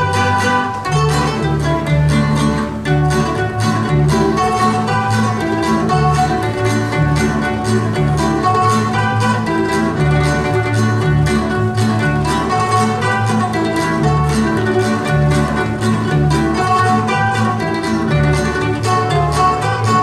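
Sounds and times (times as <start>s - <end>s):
double bass line: 0.0s - 20.0s
plucked string melody: 0.0s - 20.0s.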